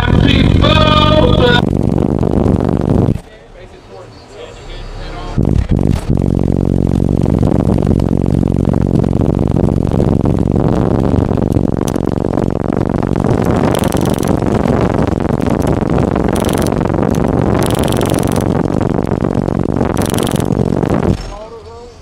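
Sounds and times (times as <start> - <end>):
loud subwoofer bass rumble: 0.0 - 3.6, 4.6 - 22.0.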